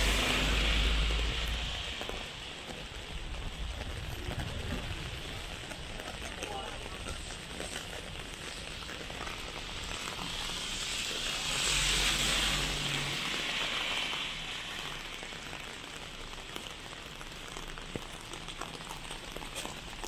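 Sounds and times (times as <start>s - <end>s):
heavy rain on a wet street: 0.0s - 20.0s
sharp ticks of raindrops: 0.0s - 20.0s.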